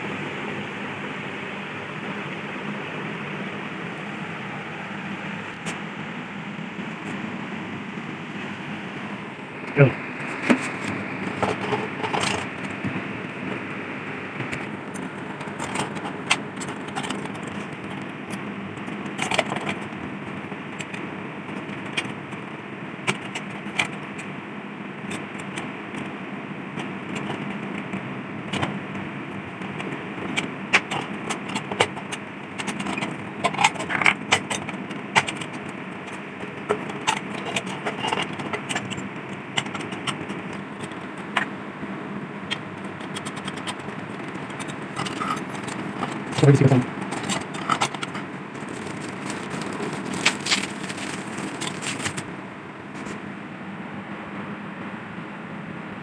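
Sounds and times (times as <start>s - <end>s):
rushing background noise: 0.0s - 55.9s.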